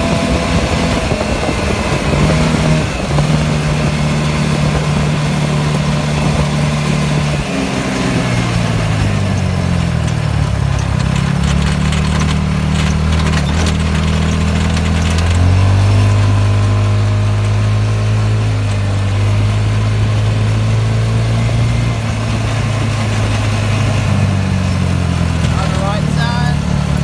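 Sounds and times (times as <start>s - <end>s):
go-kart engine running: 0.0s - 27.0s.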